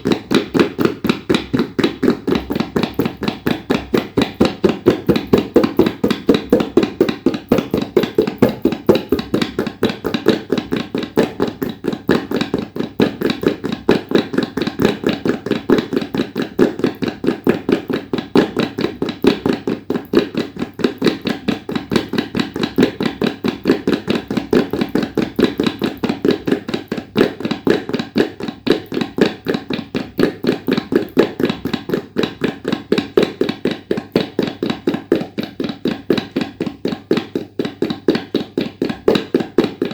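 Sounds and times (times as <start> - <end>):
tabla played fast: 0.0 - 39.9.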